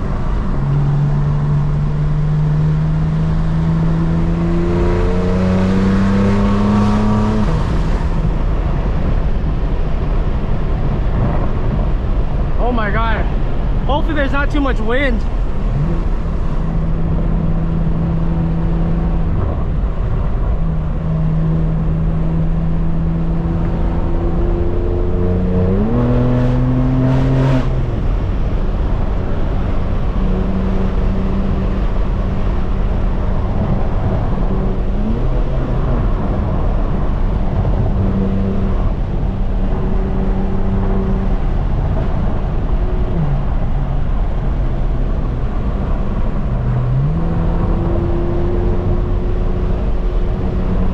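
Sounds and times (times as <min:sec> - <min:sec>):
wind noise on microphone: 0:00.0 - 0:14.0, 0:15.2 - 0:50.9
car exhaust roar: 0:00.0 - 0:50.9.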